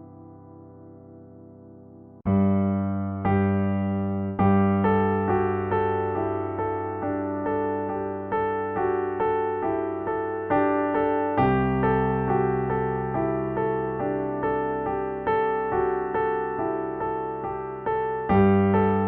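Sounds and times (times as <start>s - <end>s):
piano chords and notes: 0.0s - 19.0s.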